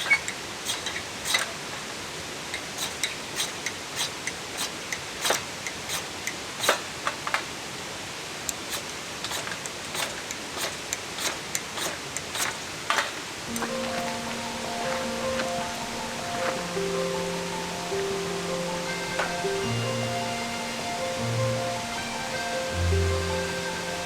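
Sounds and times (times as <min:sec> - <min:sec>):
wood fire crackling: 0:00.0 - 0:20.8
steady fire hiss: 0:00.0 - 0:24.0.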